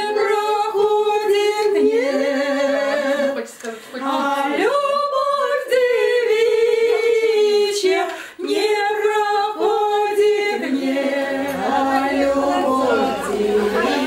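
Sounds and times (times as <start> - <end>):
women singing unaccompanied: 0.0 - 14.0.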